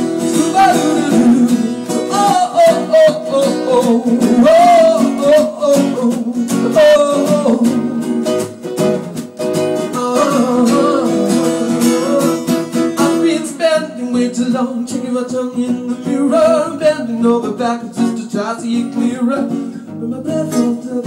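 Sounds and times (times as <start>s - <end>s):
man singing: 0.0s - 8.5s, 9.7s - 21.0s
acoustic guitars strumming: 0.0s - 21.0s.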